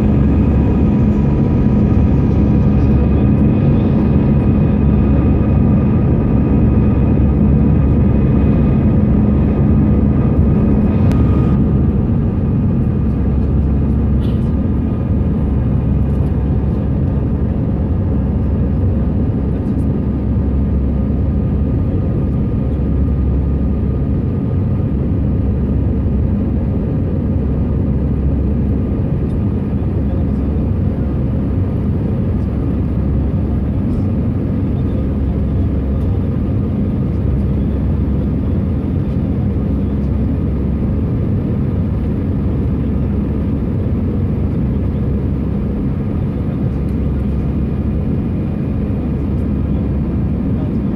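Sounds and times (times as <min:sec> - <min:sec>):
jet engines and airflow noise: 0:00.0 - 0:50.9.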